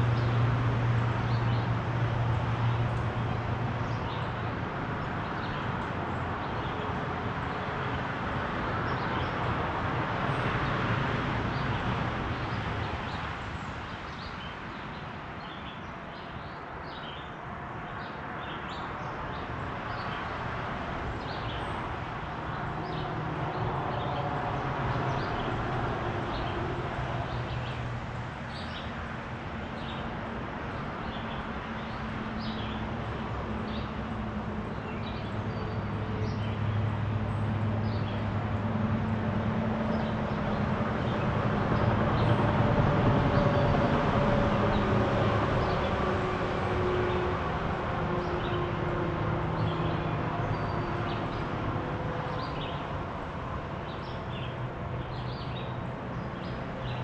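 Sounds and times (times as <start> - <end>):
distant road traffic: 0.0 - 57.0.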